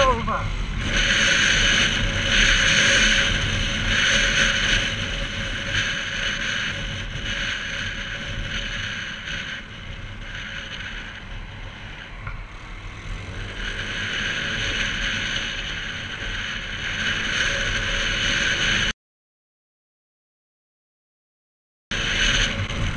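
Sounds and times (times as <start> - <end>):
motorbike engine rumble: 0.0 - 18.9, 21.9 - 22.9
wind rushing over microphone: 0.0 - 18.9, 21.9 - 22.9.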